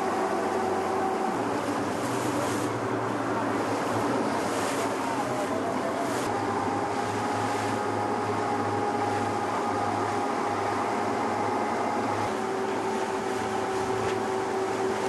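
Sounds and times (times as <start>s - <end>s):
motorboat engine whining: 0.0s - 15.0s
water noise: 0.0s - 15.0s
wind: 0.0s - 15.0s.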